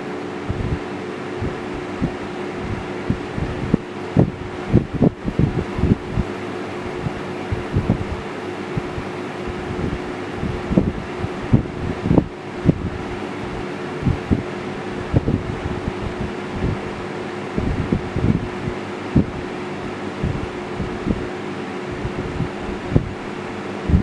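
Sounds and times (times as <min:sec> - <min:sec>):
box fan humming: 0:00.0 - 0:24.0
wind buffeting microphone: 0:00.4 - 0:21.3, 0:21.9 - 0:24.0.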